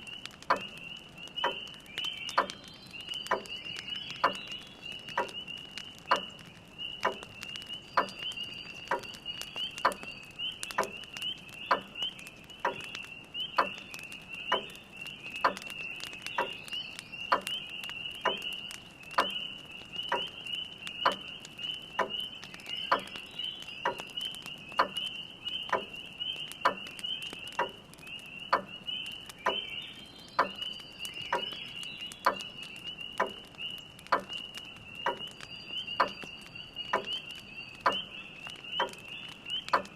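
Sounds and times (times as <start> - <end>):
fire crackling: 0.0 - 39.9
frogs peeping chorus: 0.0 - 39.9.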